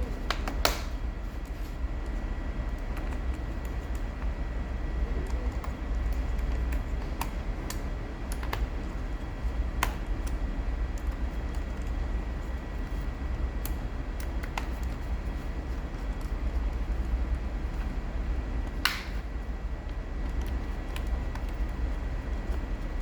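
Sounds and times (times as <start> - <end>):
steady low hum: 0.0 - 23.0
light clicks and taps: 0.1 - 4.4, 5.2 - 18.0, 18.6 - 23.0.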